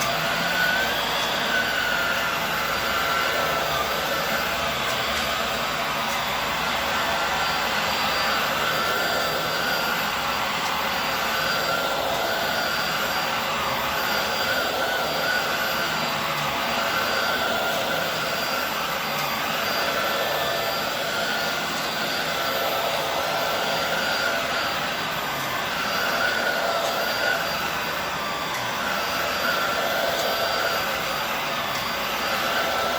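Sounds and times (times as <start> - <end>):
vacuum cleaner on a rug: 0.0 - 32.9.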